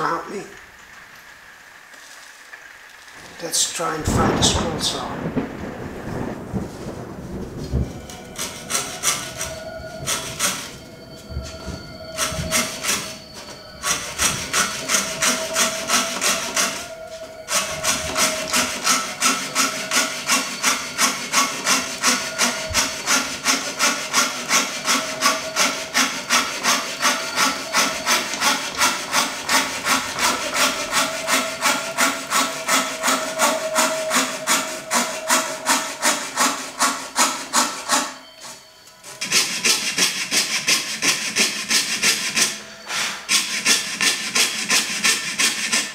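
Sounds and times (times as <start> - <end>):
fretsaw cutting wood: 8.1 - 45.9.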